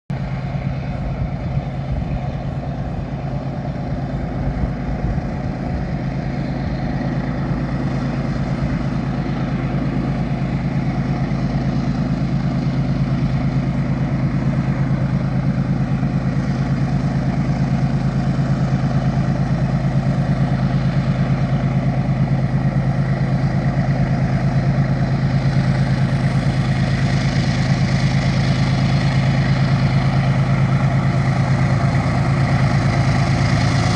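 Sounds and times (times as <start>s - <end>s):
diesel locomotive engines rumbling: 0.1s - 33.9s.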